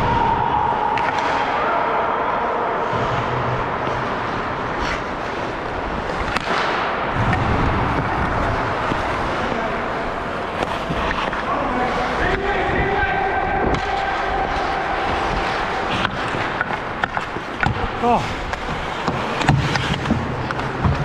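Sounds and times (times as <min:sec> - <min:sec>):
skates scraping on ice: 0:02.9 - 0:21.0.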